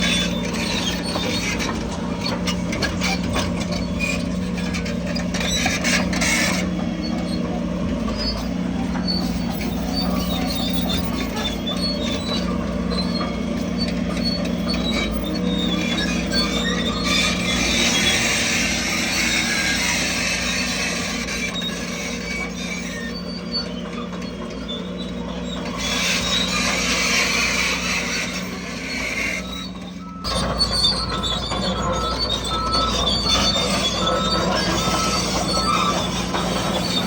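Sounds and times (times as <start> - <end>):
bulldozer diesel engine: 0.0 - 37.0
steel tracks squealing and clanking: 0.0 - 37.0.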